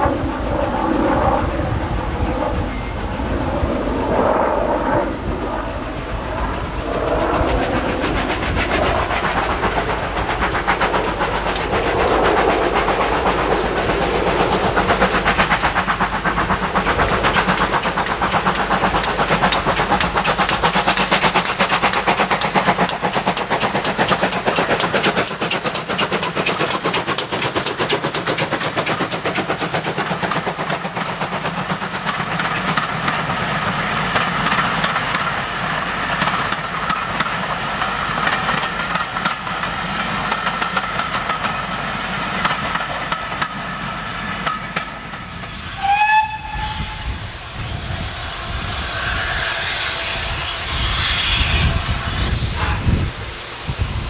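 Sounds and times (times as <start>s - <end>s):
steam locomotive beating: 0.0s - 54.0s
train wheels clattering on track: 0.0s - 54.0s.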